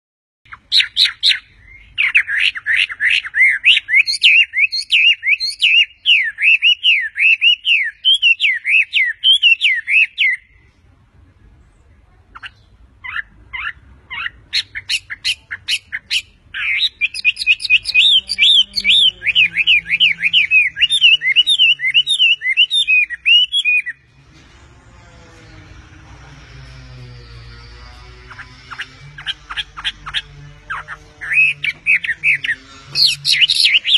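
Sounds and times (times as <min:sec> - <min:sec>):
bird singing whistled notes: 0:00.5 - 0:10.6, 0:12.4 - 0:24.0, 0:28.3 - 0:33.9.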